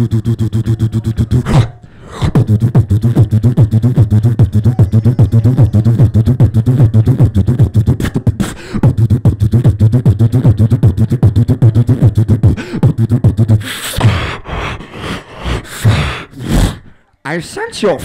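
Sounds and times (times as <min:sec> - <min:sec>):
beatboxing through microphone: 0:00.0 - 0:17.0.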